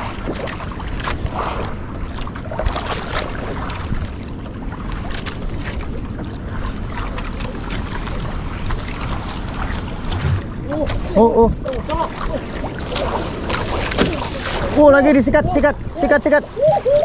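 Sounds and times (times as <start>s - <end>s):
water splashing: 0.0s - 17.0s
wind rumble on microphone: 0.0s - 17.0s.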